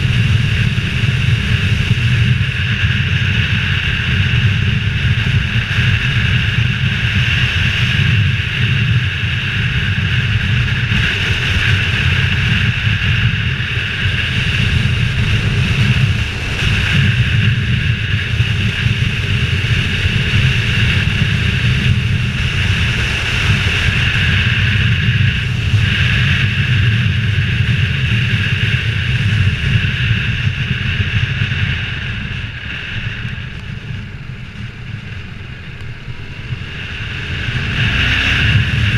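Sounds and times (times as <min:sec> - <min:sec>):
motorcycle engine running: 0:00.0 - 0:38.9
wind rushing over helmet: 0:00.0 - 0:38.9.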